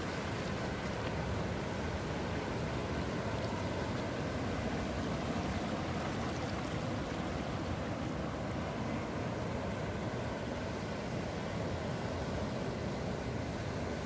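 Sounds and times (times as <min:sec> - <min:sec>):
surf washing between boulders: 0:00.0 - 0:14.0.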